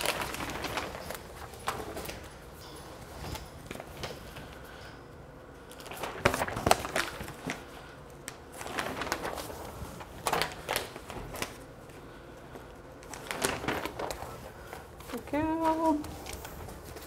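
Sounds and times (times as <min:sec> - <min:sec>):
newspaper rustling and crinkling: 0:00.0 - 0:04.8, 0:05.6 - 0:17.0.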